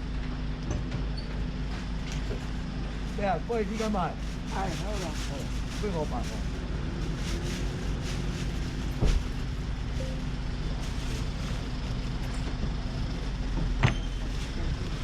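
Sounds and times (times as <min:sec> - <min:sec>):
low mechanical hum: 0:00.0 - 0:15.0
outdoor market background noise: 0:00.0 - 0:15.0.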